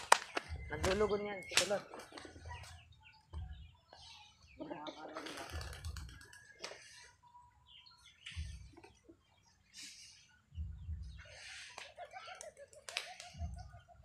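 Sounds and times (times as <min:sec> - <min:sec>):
faint bird chirps: 0:00.2 - 0:14.0.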